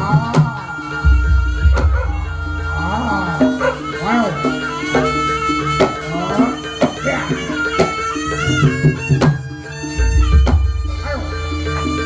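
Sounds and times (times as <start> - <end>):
reedy shawm melody: 0.0 - 12.0.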